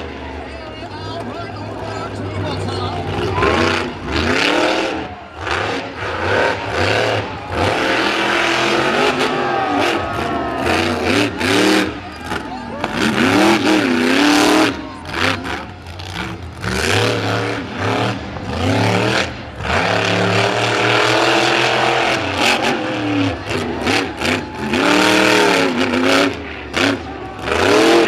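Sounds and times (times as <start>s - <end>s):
truck engine revving hard: 1.6s - 28.0s.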